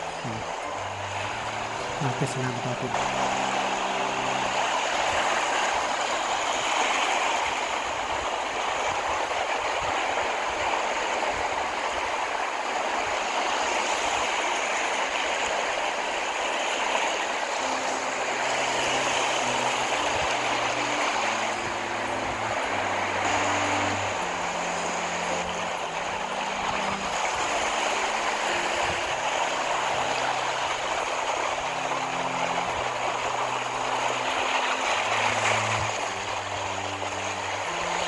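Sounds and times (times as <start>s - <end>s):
steady rushing noise: 0.0s - 38.0s.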